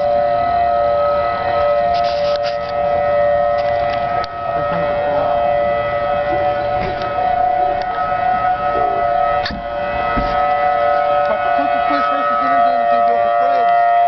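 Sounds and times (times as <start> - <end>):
two-note warning siren: 0.0 - 14.0.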